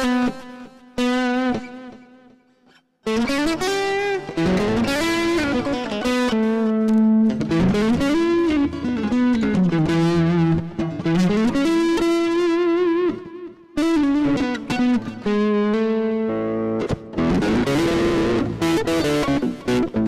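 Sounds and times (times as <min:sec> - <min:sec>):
electric guitar lead line: 0:00.0 - 0:02.3, 0:03.0 - 0:20.0.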